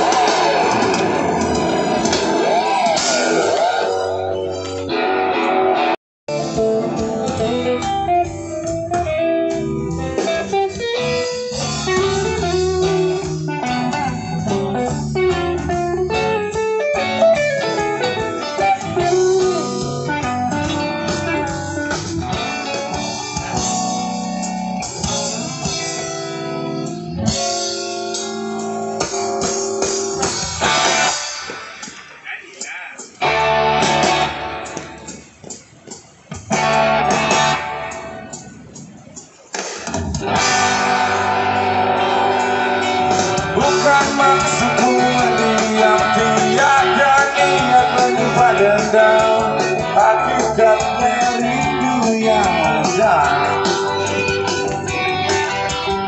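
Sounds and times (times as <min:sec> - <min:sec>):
electric guitar melody: 0:00.0 - 0:32.1, 0:33.2 - 0:56.0
rock band over pa: 0:00.0 - 0:56.0.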